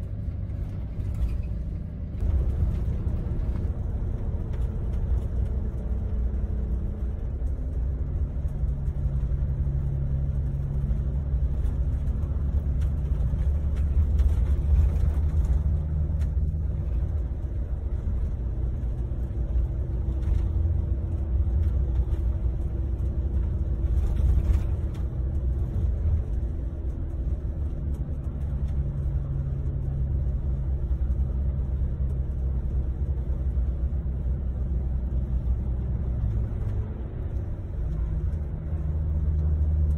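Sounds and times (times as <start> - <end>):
droning engine hum: 0.0 - 39.9
engine and road rumble: 0.0 - 39.9.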